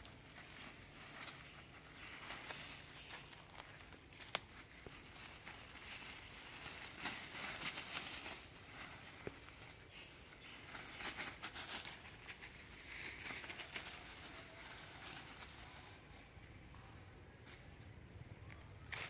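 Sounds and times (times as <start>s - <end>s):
dry leaves and twigs crackling: 0.0s - 19.0s.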